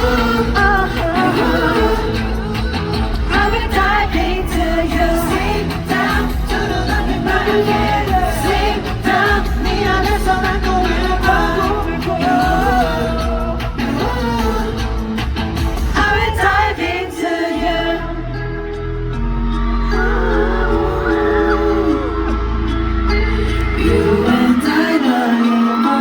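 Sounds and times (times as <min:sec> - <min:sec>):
backing track through speakers: 0:00.0 - 0:26.0
group singing pop song live: 0:00.0 - 0:26.0.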